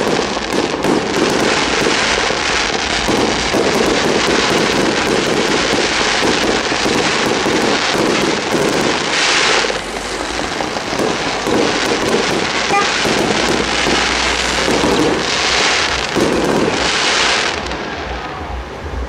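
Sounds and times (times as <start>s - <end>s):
firework hiss: 0.0s - 19.0s
fireworks bursting and crackling: 0.0s - 19.0s.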